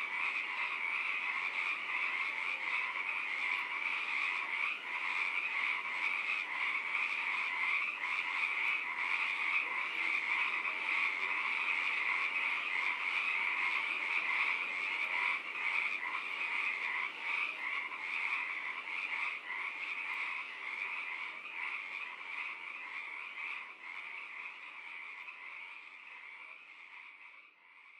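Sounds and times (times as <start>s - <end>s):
frogs croaking: 0.0s - 27.9s.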